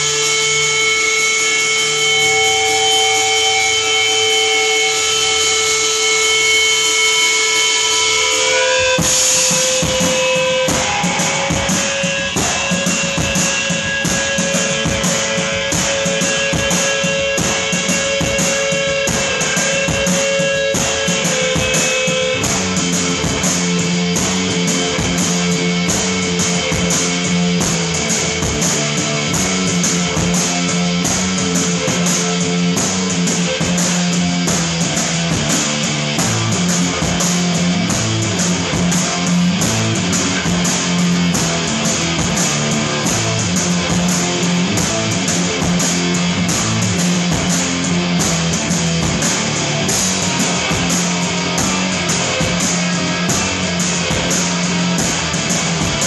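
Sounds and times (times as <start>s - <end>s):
distorted electric guitars: 0.0s - 56.0s
drum kit with cymbal hits: 0.0s - 56.0s.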